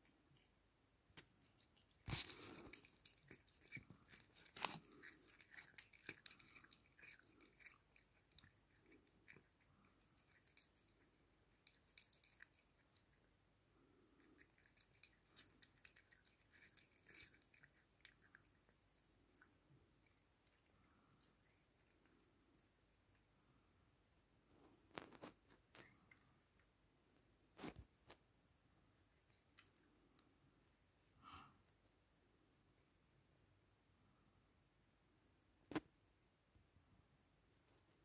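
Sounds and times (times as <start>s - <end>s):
cat chewing and crunching: 0.0s - 31.2s.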